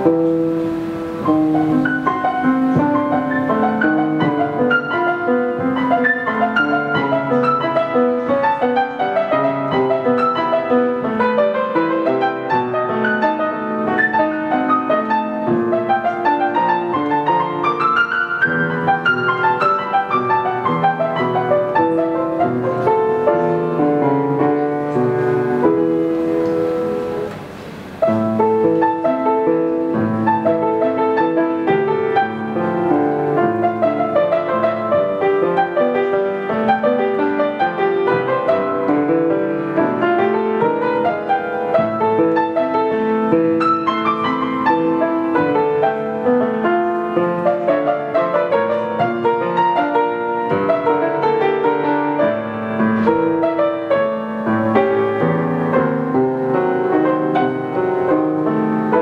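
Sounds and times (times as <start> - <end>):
grand piano classical piece: 0.0 - 59.0.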